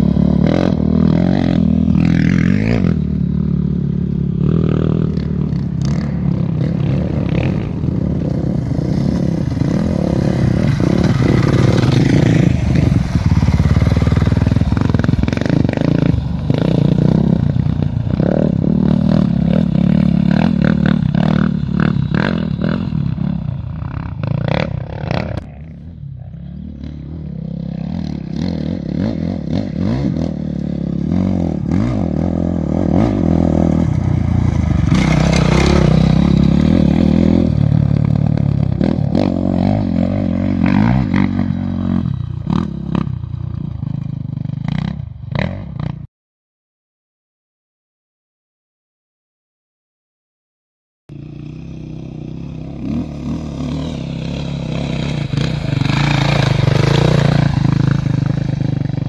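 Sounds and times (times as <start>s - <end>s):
vehicle engine running loudly: 0.0s - 44.6s, 51.5s - 59.0s.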